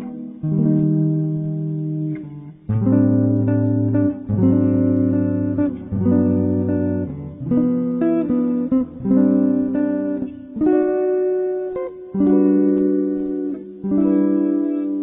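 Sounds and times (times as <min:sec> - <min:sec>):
jazz electric guitar chords: 0:00.0 - 0:15.0.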